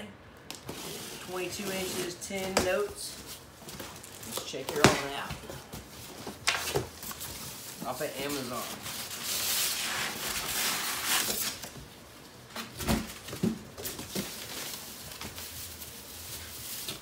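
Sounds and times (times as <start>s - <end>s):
cardboard and plastic rustling: 0.5s - 17.0s.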